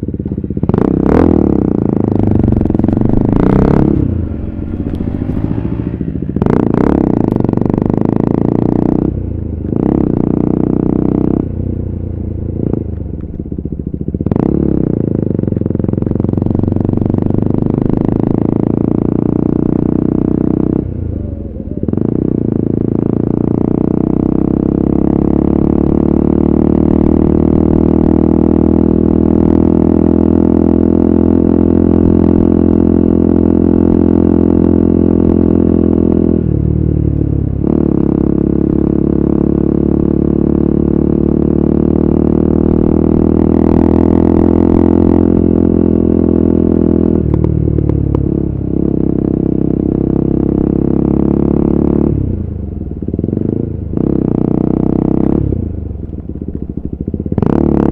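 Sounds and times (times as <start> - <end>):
motorcycle engine cruising: 0.0 - 57.9.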